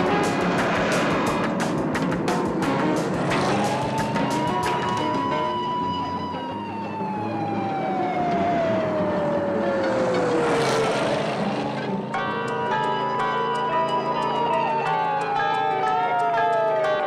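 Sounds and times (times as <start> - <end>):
police siren wailing: 0.0 - 1.6, 2.6 - 17.0.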